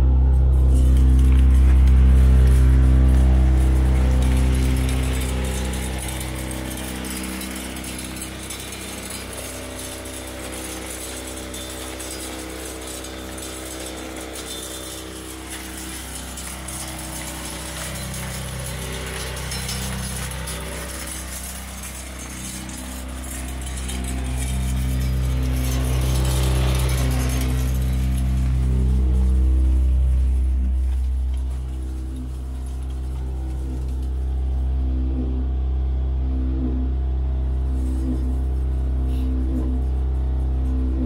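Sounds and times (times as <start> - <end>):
spinner motor humming: 0.0 - 41.0
salt granules ticking: 0.9 - 34.5.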